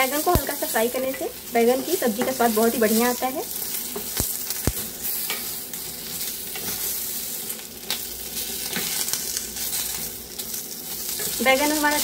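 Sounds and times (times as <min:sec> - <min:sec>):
eggplant sizzling in hot oil: 0:00.0 - 0:12.0.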